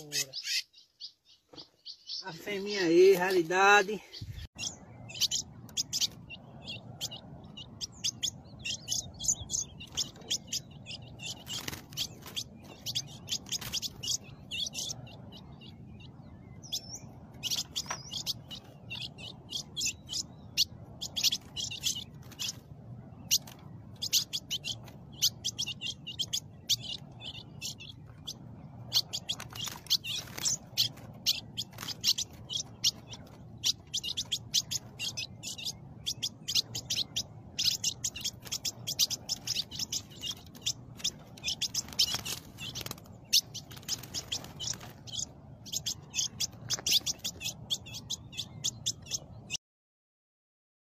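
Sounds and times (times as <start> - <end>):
songbirds chirping: 0.0 - 49.6
faint low rumble: 4.0 - 49.6.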